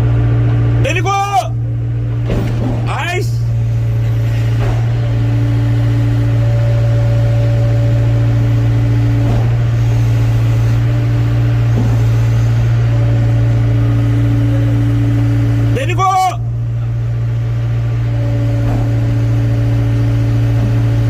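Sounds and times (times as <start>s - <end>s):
excavator diesel engine drone: 0.0s - 21.0s
steady higher tone: 3.3s - 21.0s.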